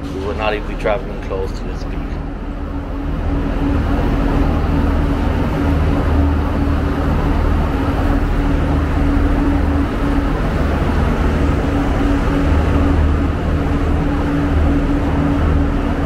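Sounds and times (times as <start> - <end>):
diesel train engines idling: 0.0 - 16.0.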